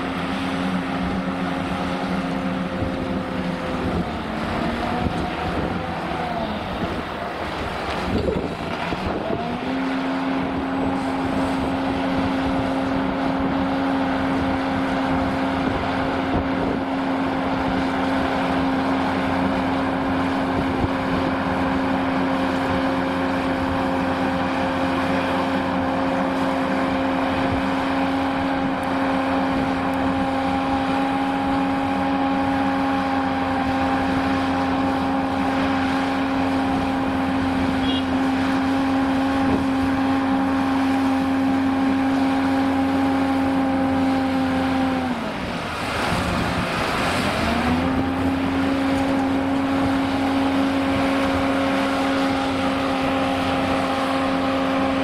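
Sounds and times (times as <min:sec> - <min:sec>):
diesel engine running at high speed: 0:00.0 - 0:55.0.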